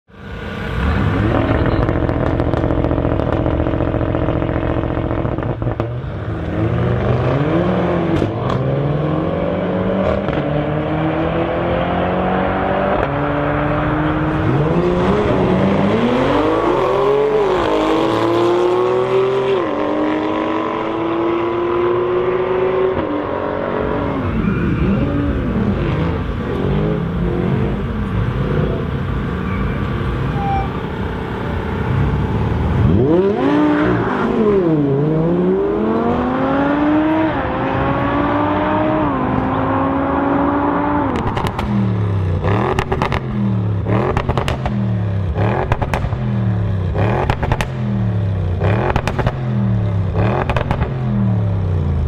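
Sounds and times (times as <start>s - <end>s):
car engine revving and accelerating: 0.2s - 30.2s, 31.1s - 52.0s.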